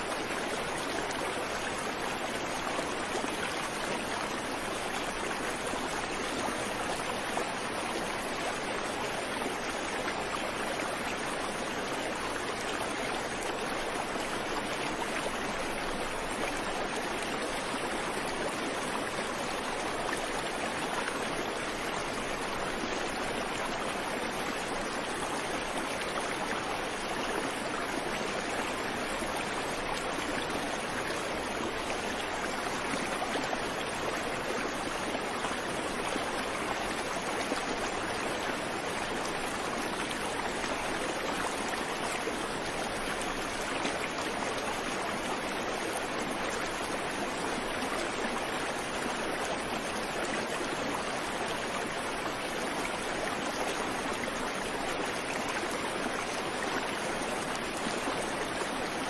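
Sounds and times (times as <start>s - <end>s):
creek water rushing over stones: 0.0s - 59.0s.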